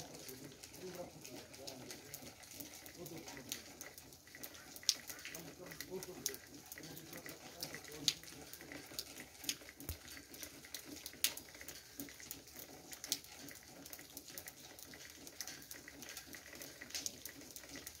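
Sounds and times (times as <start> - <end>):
faint low background murmur: 0.0 - 18.0
water dripping: 0.0 - 18.0.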